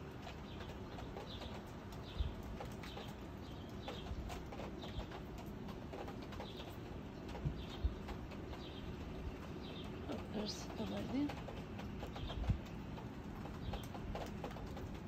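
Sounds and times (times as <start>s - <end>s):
small bird chirping: 0.2s - 15.0s.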